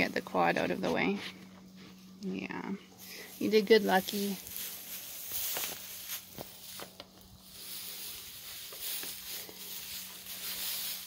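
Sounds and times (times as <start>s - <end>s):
faint low hum: 0.0s - 11.0s
soft rustling hiss: 0.0s - 11.0s.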